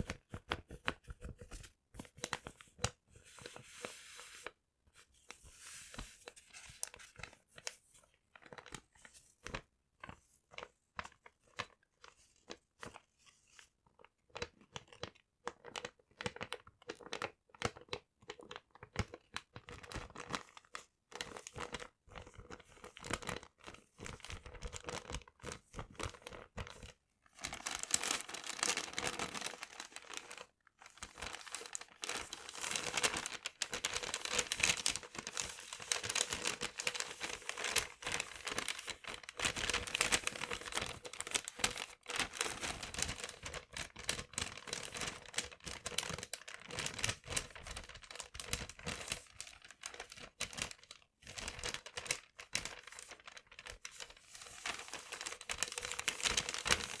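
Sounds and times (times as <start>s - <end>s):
paper crinkling and crumpling: 0.0s - 10.2s, 21.2s - 57.0s.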